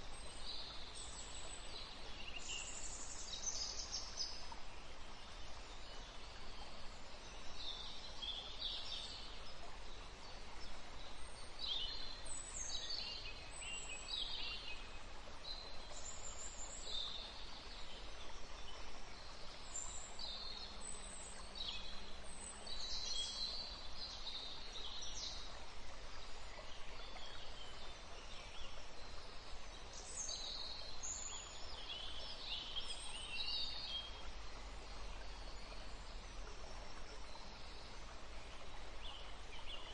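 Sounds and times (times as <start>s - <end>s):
soft steady hiss: 0.0s - 39.9s.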